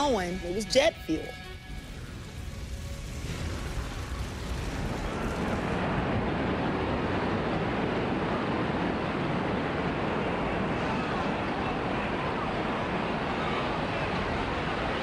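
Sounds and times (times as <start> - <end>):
steady rushing rumbling noise: 0.0 - 15.0.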